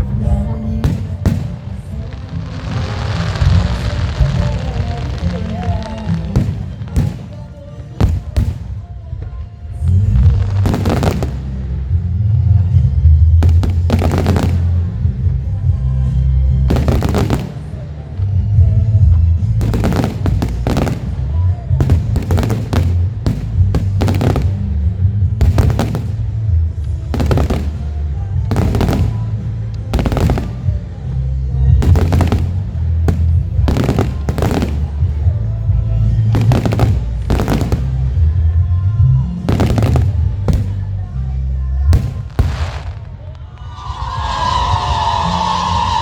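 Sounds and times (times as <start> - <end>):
deep rumble: 8.0 - 46.0.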